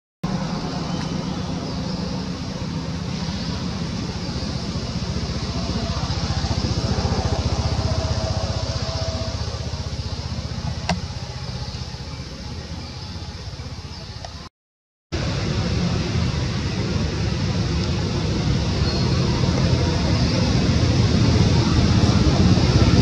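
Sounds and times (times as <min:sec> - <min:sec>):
motor running with pulsing rumble: 0:00.2 - 0:14.5, 0:15.2 - 0:23.0.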